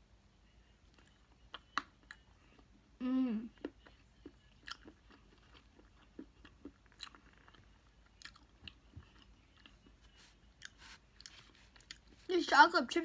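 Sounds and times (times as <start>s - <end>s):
faint close-up chewing: 0.9s - 2.8s, 3.4s - 12.3s.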